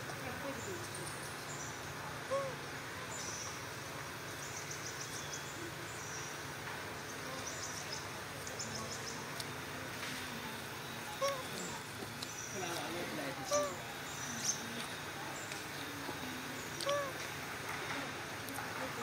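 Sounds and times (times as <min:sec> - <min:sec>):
insects humming: 0:00.1 - 0:19.0.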